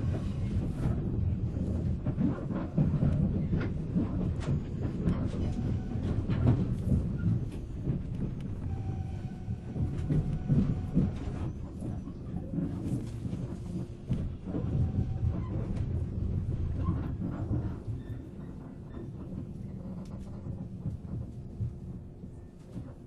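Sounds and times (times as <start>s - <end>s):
train rumbling on rails: 0.0s - 23.0s
wheels clicking on rail joints: 0.0s - 23.0s.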